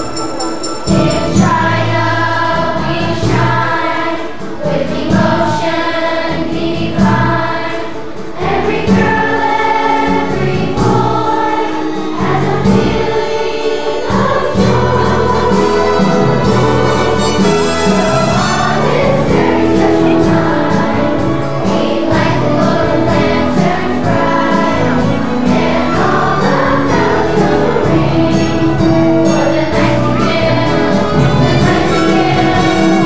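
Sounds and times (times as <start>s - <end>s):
instrumental backing with bass line: 0.0s - 7.7s, 8.3s - 33.0s
choir singing: 0.0s - 33.0s.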